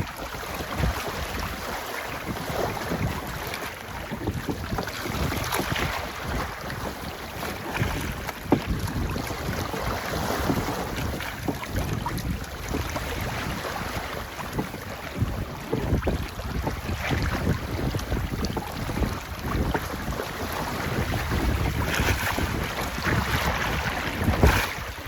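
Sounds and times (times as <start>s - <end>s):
water splashing and rushing: 0.0s - 25.0s
wind buffeting microphone: 0.0s - 25.0s.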